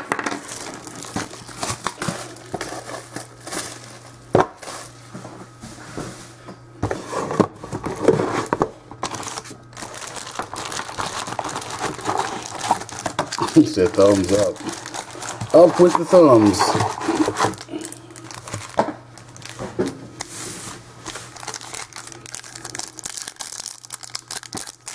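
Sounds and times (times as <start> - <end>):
plastic wrapping crinkling: 0.0 - 5.0, 7.7 - 24.9
foil packs rustling: 0.0 - 5.9, 6.9 - 24.9.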